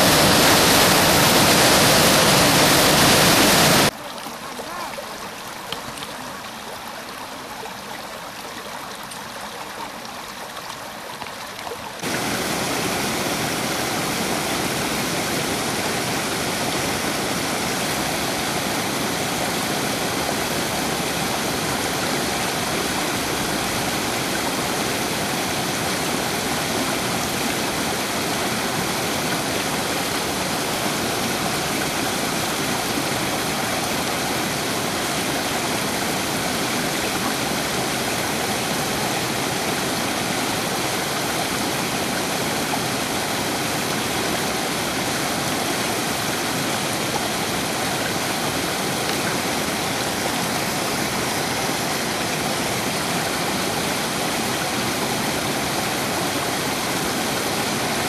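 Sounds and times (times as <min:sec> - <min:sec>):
stream cascading over rocks: 0:00.0 - 0:58.0.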